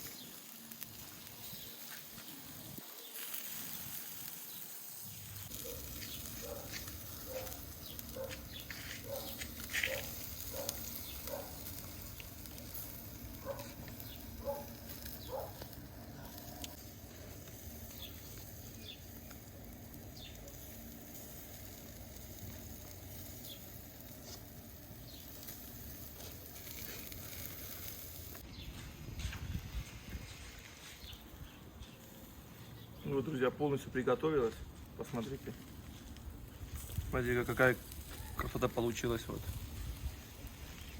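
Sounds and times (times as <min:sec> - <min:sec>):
meat sizzling on a grill: 0:00.0 - 0:28.6, 0:30.0 - 0:40.9
coals crackling and popping: 0:00.0 - 0:40.9.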